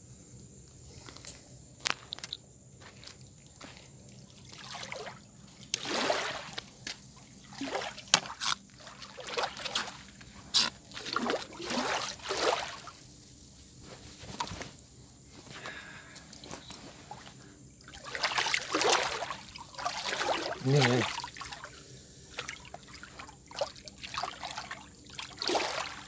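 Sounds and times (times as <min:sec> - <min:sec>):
water sloshing over steps: 0:02.1 - 0:26.0.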